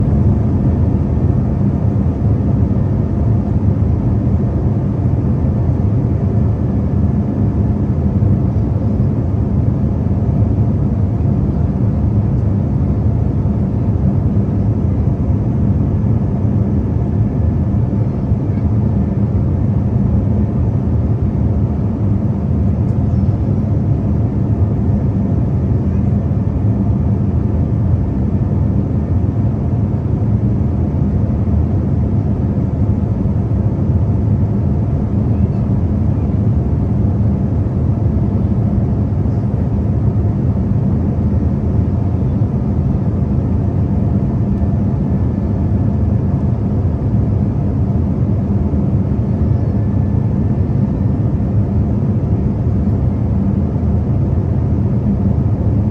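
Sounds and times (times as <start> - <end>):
jet airliner cabin drone: 0.0 - 55.9.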